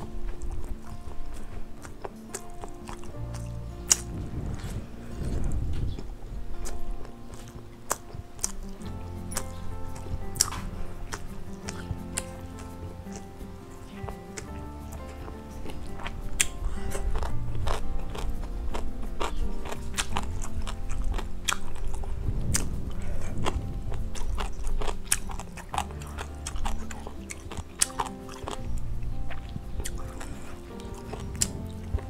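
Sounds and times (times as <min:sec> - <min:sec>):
background music: 0:00.0 - 0:32.0
close chewing with mouth clicks: 0:00.0 - 0:32.0.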